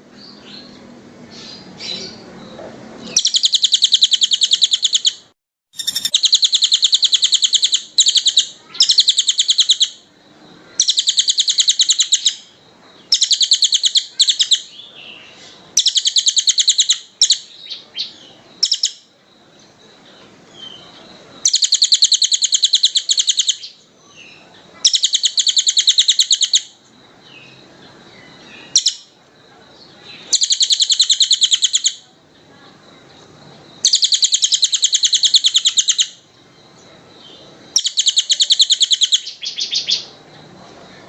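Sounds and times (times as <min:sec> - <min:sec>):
songbird trilling: 0:00.2 - 0:32.2, 0:32.9 - 0:40.2.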